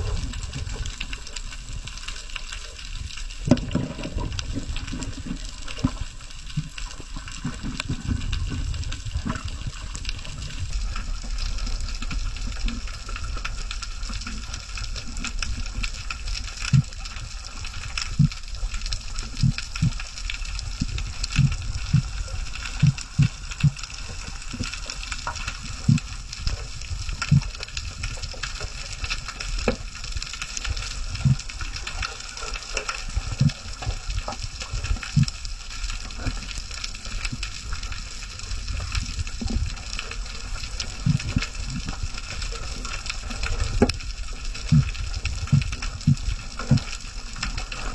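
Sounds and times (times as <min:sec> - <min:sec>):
crackling clicks: 0:00.0 - 0:47.9
underwater rumble and hiss: 0:00.0 - 0:47.9.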